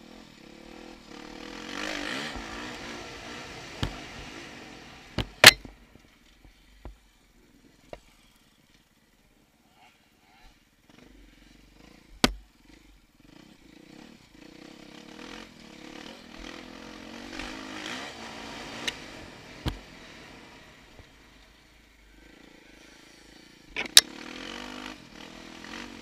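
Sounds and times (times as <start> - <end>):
dirt bike engine revving: 0.0 - 5.8, 9.6 - 21.3, 22.1 - 26.0.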